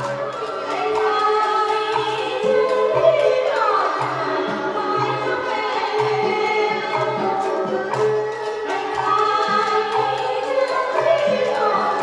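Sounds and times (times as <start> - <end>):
instrumental accompaniment: 0.0 - 12.0
voices singing: 0.0 - 12.0.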